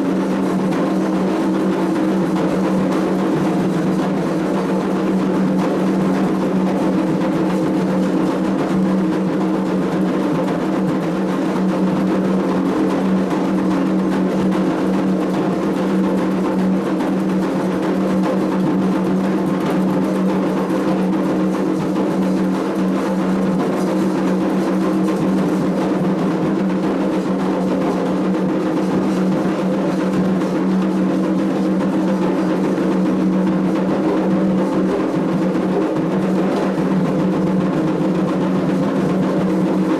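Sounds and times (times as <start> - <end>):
hand drums drumming: 0.0 - 39.9.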